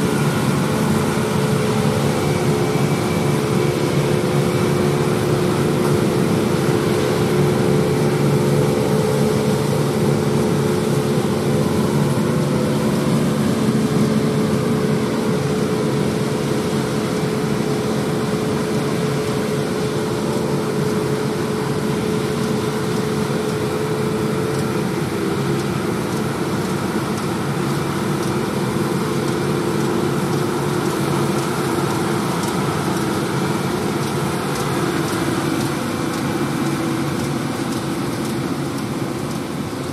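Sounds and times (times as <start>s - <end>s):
diesel engines droning: 0.0s - 39.9s
harvesting machinery running: 0.0s - 39.9s.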